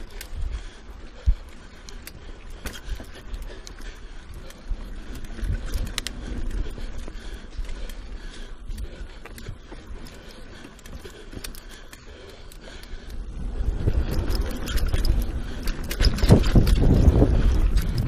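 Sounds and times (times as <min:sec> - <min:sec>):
bike clicking and rattling: 0:00.0 - 0:18.0
bike tyres on dirt: 0:00.0 - 0:18.0.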